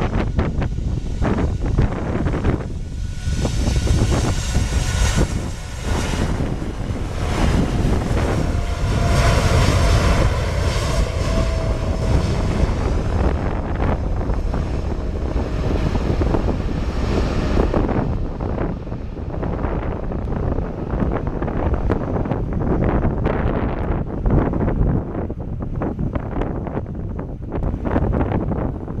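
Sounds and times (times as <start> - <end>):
jet engines deep rumble: 0.0 - 29.0
wind buffeting microphone: 0.0 - 29.0.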